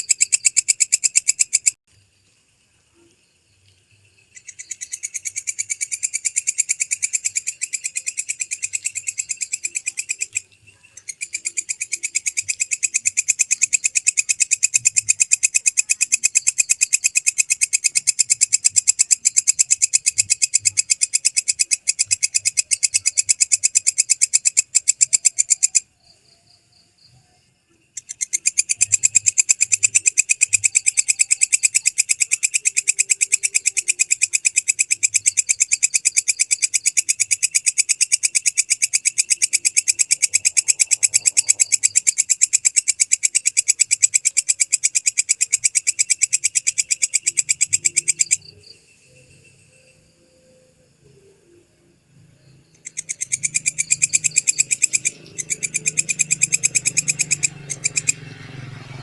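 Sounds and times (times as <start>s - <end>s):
katydid chirping: 0.0s - 1.8s, 4.0s - 59.0s.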